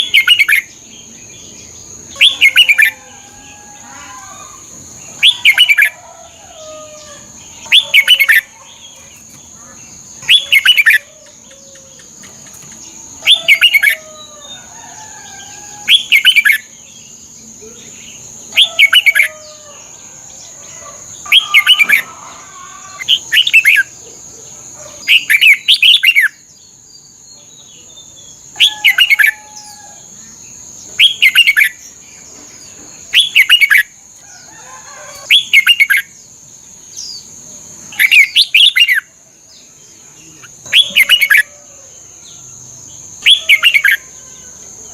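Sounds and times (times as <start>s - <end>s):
bird singing: 0.0s - 44.9s.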